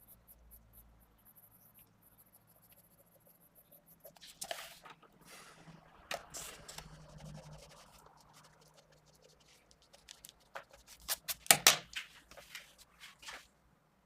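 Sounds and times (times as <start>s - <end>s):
pencil scratching on paper: 0.0s - 11.5s.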